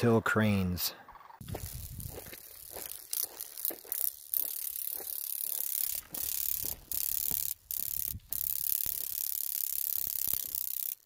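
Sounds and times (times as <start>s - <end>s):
grasshopper clicking: 1.4s - 11.0s.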